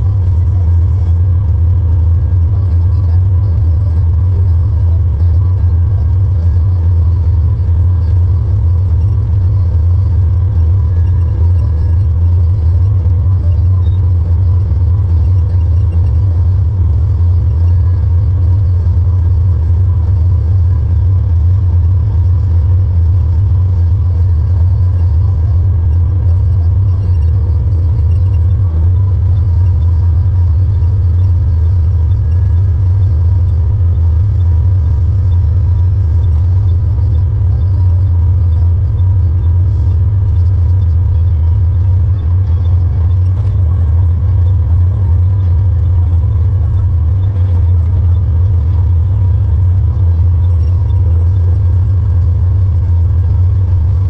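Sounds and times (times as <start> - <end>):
faint machine whines: 0.0 - 54.0
tractor and baler rumbling: 0.0 - 54.0.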